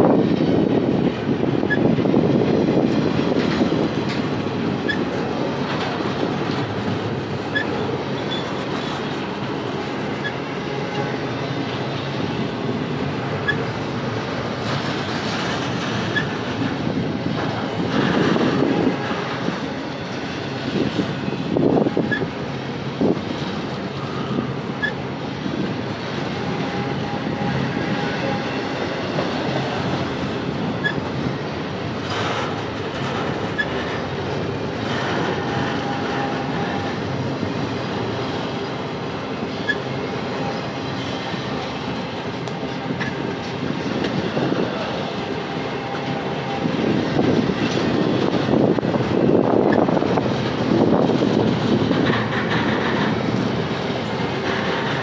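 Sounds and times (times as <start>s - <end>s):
train car clunks: 0.0s - 55.0s
train wheels rumbling on rail: 0.0s - 55.0s.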